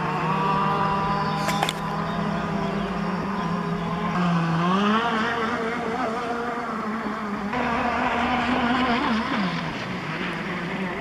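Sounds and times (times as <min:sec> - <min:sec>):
model powerboat engine at high speed: 0:00.0 - 0:11.0.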